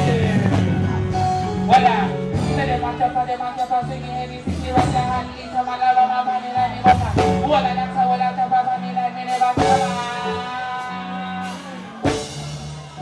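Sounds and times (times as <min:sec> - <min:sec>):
backing music with bass line: 0:00.0 - 0:13.0.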